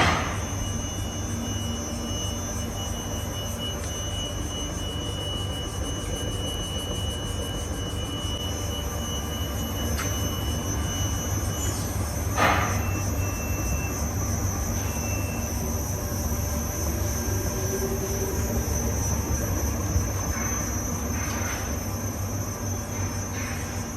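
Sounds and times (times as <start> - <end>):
faint high whine: 0.0 - 23.9.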